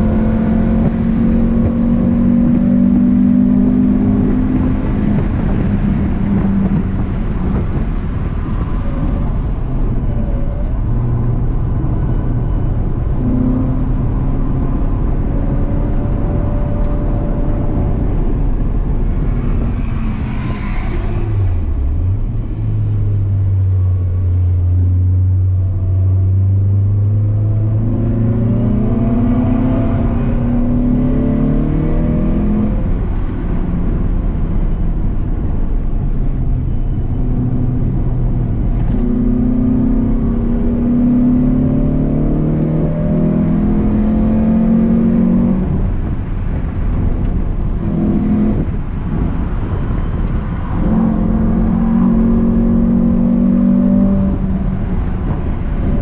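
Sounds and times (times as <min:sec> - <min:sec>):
wind noise: 0:00.0 - 0:24.7, 0:25.6 - 0:56.0
car engine revving: 0:00.0 - 0:56.0.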